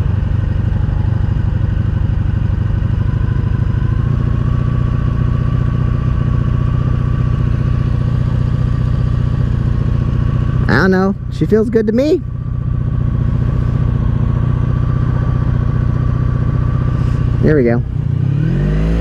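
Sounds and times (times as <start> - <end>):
motorcycle engine idling: 0.0 - 18.4.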